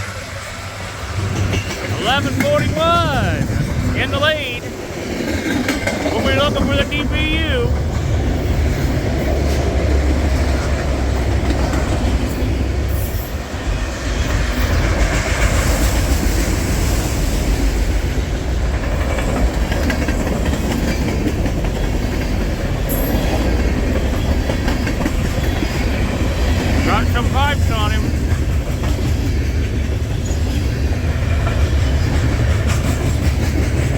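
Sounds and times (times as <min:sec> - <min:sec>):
freight train rolling past: 0:00.0 - 0:33.9.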